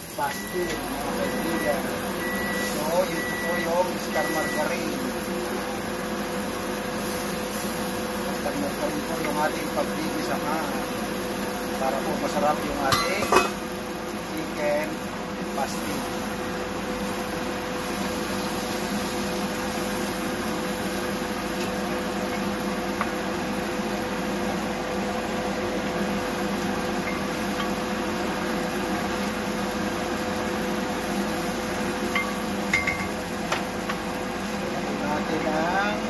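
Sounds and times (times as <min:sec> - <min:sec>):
kitchen fan humming: 0:00.0 - 0:36.0.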